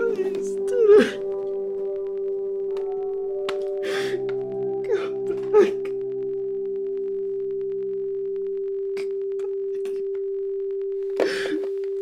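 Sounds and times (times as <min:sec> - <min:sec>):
faint low drone: 0:00.0 - 0:12.0
steady pure tone: 0:00.0 - 0:12.0.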